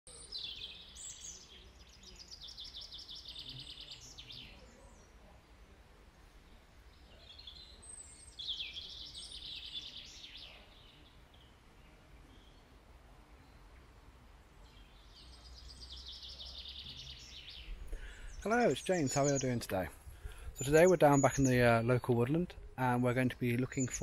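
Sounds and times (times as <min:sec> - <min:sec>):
songbird trilling song: 0:00.1 - 0:05.2, 0:06.5 - 0:14.0, 0:14.6 - 0:24.0.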